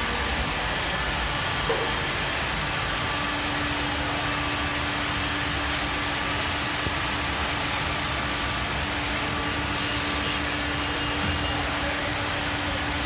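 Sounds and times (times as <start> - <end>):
grinding machine hiss and rumble: 0.0 - 13.0
steady motor hum: 0.0 - 13.0.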